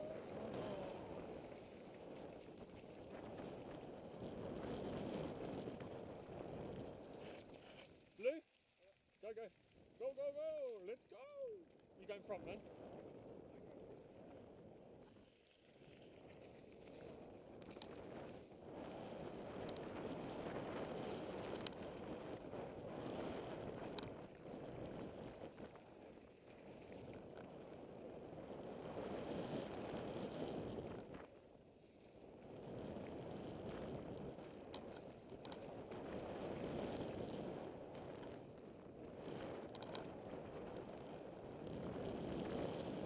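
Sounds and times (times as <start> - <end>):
wind on microphone: 0.0 - 7.8, 12.2 - 43.0
bike tyres rolling over gravel: 0.0 - 43.0.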